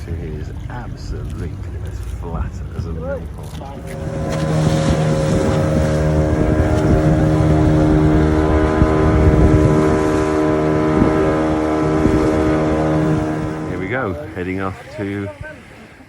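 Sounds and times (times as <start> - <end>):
wind noise: 0.0 - 15.8
boat engine humming: 0.0 - 16.0
water wash: 0.0 - 16.0.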